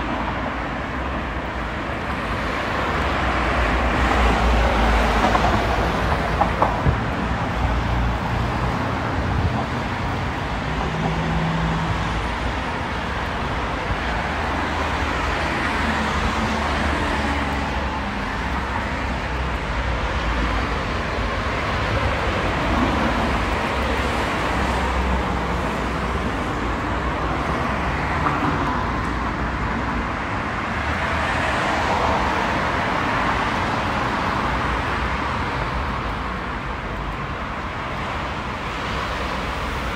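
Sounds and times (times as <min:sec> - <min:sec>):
road traffic rumble and hiss: 0:00.0 - 0:39.9.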